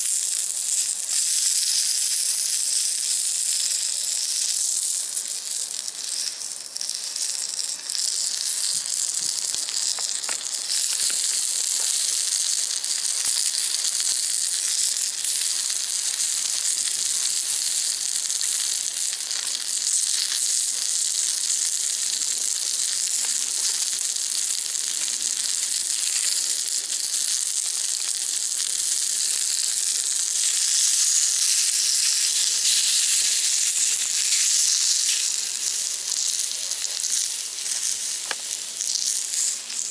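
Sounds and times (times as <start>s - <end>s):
food sizzling in a skillet: 0.0s - 39.9s.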